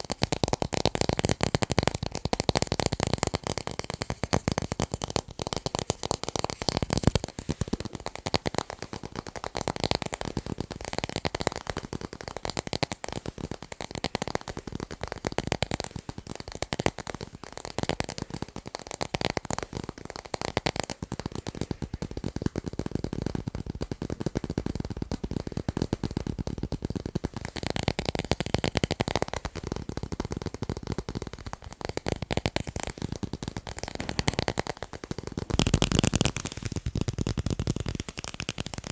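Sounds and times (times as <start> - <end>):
fast tapping on tape: 0.0 - 38.9.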